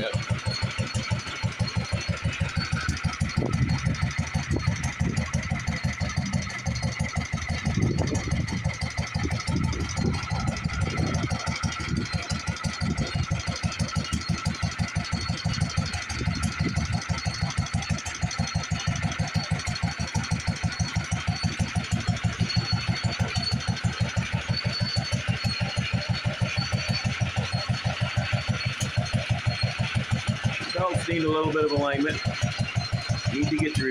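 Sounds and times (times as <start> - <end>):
single-cylinder engine running: 0.0 - 33.9.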